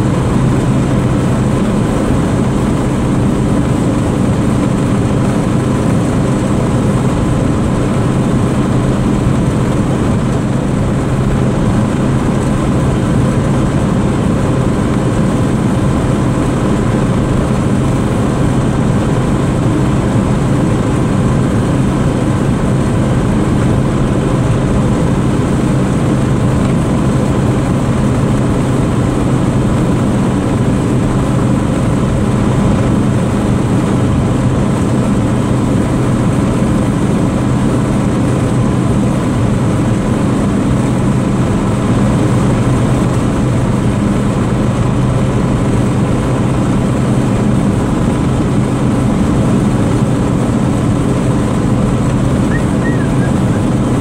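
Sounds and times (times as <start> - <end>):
road and wind noise: 0.0 - 54.0
truck engine droning: 0.0 - 54.0.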